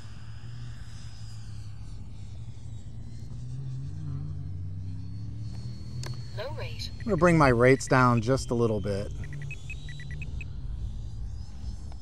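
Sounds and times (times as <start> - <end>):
electric jet fan whining: 0.0 - 12.0
steady low rumble: 0.0 - 12.0.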